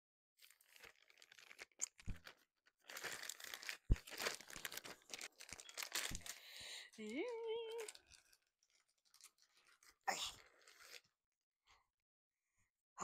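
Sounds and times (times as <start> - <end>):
plastic packaging crinkling and tearing: 0.4 - 11.1.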